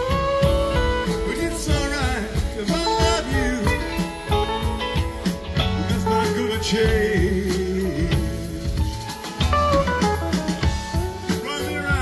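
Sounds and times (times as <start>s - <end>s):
guitar bending notes: 0.0s - 12.0s
rock band instrumental: 0.0s - 12.0s.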